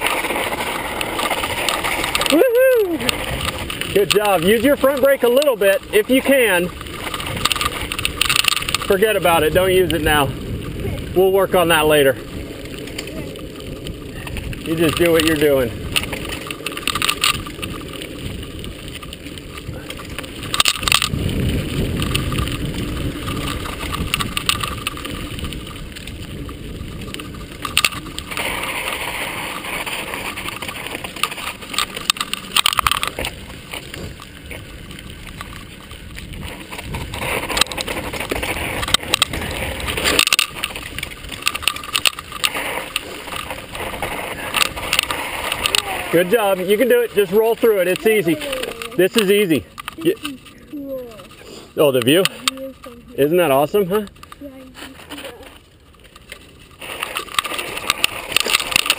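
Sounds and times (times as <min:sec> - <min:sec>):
bike rattling and knocking: 0:00.0 - 0:58.9
bike tyres on dirt trail: 0:00.0 - 0:58.9.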